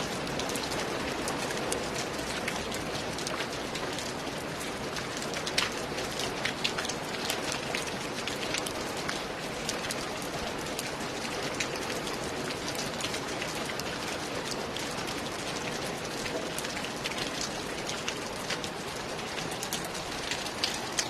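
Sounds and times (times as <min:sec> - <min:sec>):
rain falling on a roof: 0:00.0 - 0:21.0.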